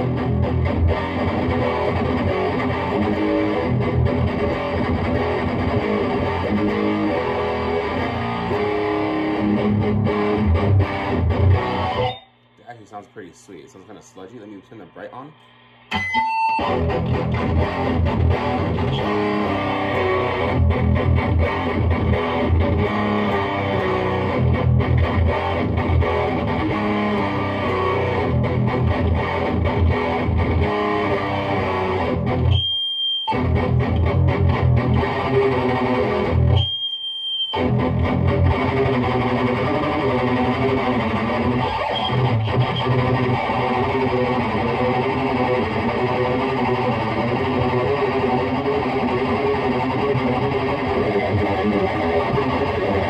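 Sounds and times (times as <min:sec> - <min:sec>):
distorted electric guitar riffing: 0:00.0 - 0:53.0.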